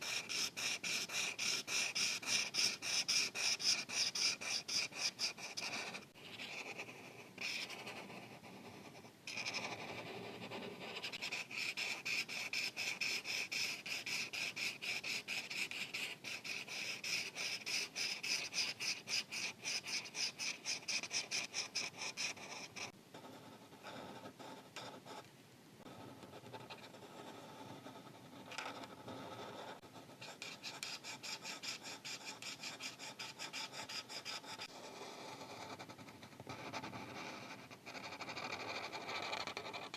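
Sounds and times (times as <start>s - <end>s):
markers scratching on paper: 0.0s - 25.2s, 25.9s - 39.9s.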